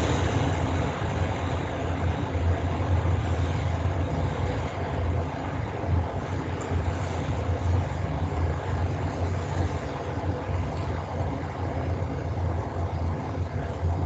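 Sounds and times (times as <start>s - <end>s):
constant hiss: 0.0s - 14.0s
low rumbling noise: 0.0s - 14.0s.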